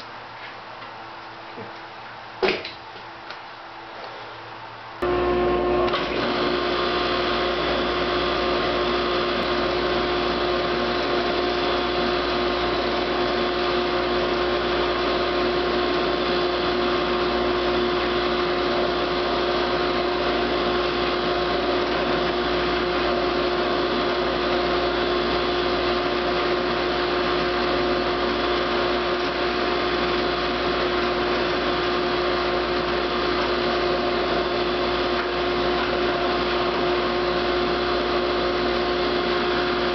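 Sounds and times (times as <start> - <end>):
woodworking machine motor whir: 5.0 - 39.9.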